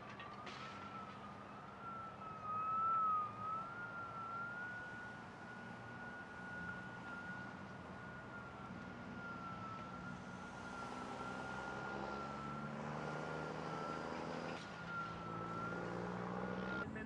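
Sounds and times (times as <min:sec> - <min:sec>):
emergency vehicle siren: 0:00.0 - 0:17.0
vehicle engines running: 0:00.0 - 0:17.0.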